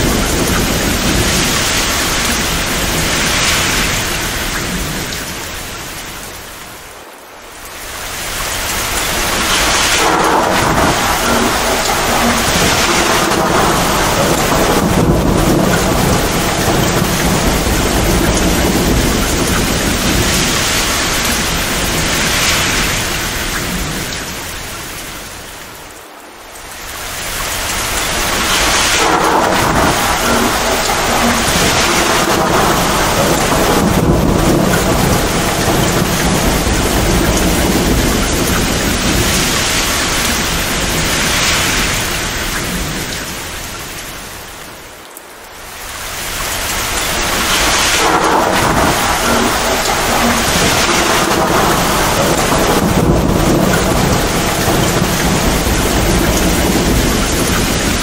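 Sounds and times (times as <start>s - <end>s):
rolling thunder: 0.0s - 6.9s, 7.8s - 25.4s, 26.9s - 44.8s, 45.8s - 58.0s
heavy rain pouring: 0.0s - 58.0s.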